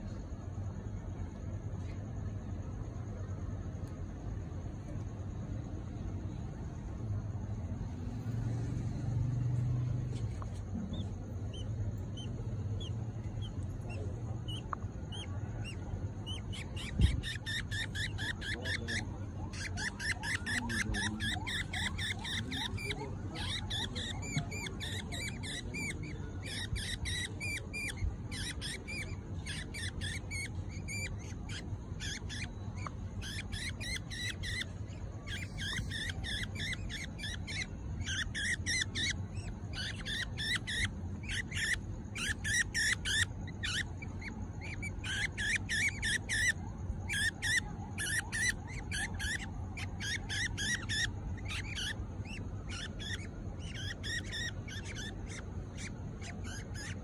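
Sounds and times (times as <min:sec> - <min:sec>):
budgerigar chicks chirping: 0:00.0 - 0:57.0.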